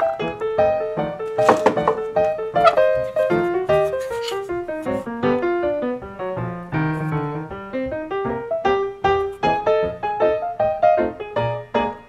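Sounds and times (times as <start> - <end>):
piano single notes: 0.0 - 12.0.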